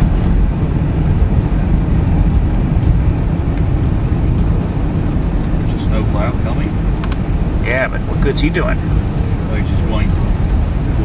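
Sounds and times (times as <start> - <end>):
car driving on snowy road: 0.0 - 11.0.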